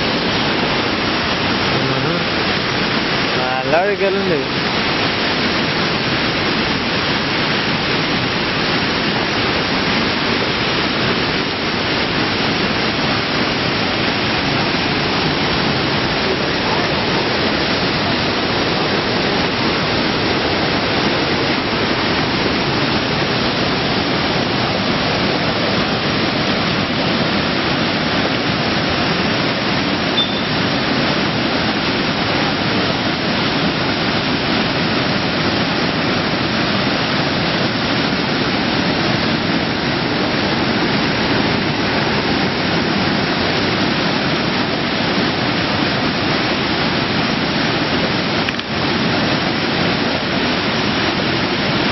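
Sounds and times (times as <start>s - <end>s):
waterfall rushing over rocks: 0.0s - 51.9s.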